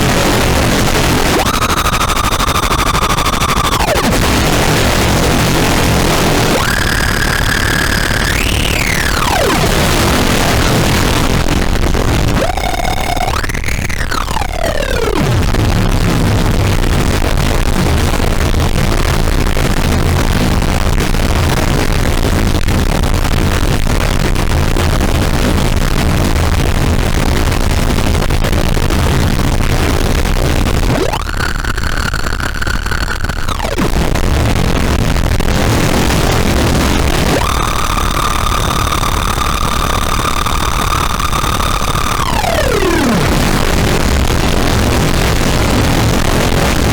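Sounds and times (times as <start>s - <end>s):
distorted noise drone: 0.0s - 46.9s.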